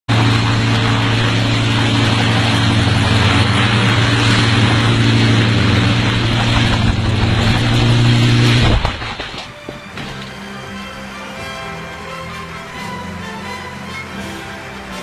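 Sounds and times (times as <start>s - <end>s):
helicopter engine and rotor: 0.1s - 15.0s.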